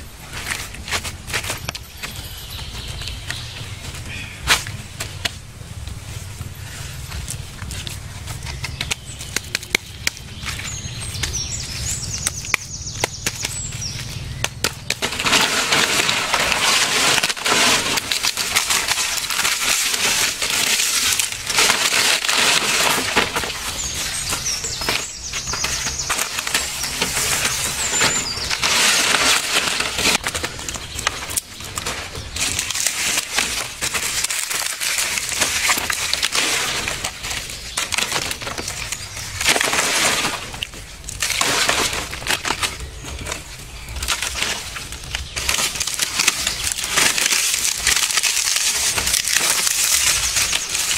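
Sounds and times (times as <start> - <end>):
dry fronds crackling rustle: 0.0 - 50.9.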